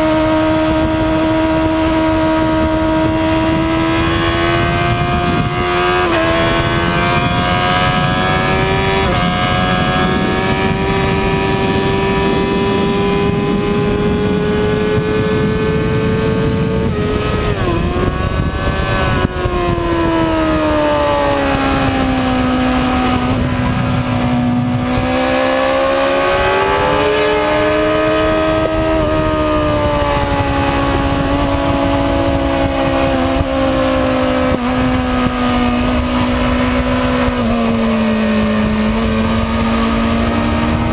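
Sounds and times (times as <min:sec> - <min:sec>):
motorcycle engine revving: 0:00.0 - 0:40.9
wind rushing over camera: 0:00.0 - 0:40.9.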